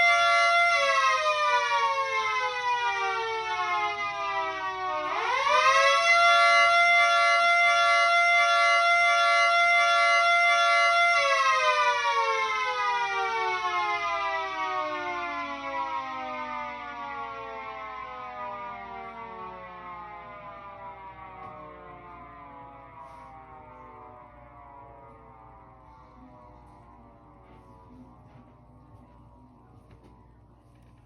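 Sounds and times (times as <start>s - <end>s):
civil defense siren wailing: 0.0s - 31.0s.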